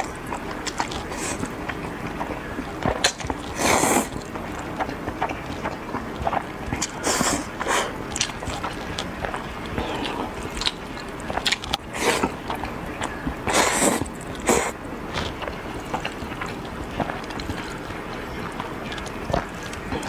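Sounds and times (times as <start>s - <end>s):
noodle slurping: 0.0s - 20.0s
wet chewing: 0.0s - 20.0s.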